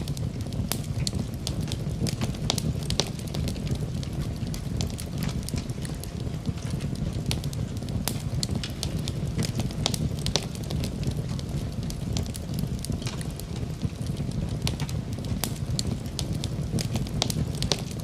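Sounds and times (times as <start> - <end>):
low rumble: 0.0 - 18.0
wood fire crackling: 0.0 - 18.0.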